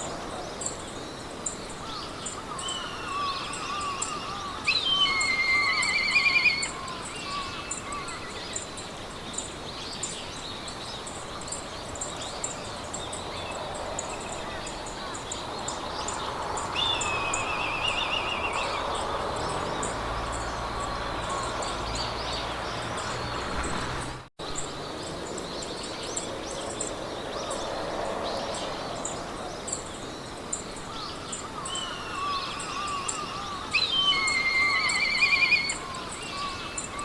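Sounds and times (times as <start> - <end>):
songbirds singing: 0.0 - 37.0
wind rustling through grass: 0.0 - 37.0
high insect chirps: 0.6 - 23.2, 25.7 - 37.0.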